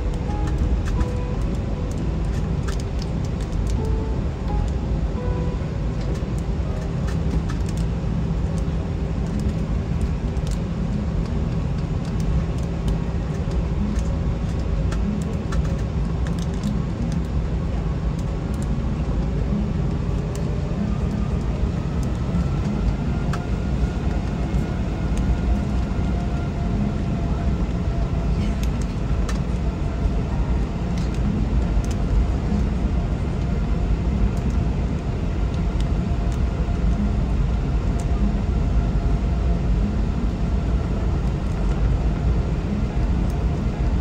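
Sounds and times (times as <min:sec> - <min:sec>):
aircraft cabin low rumble: 0:00.0 - 0:44.0
faint rising whine: 0:00.0 - 0:44.0.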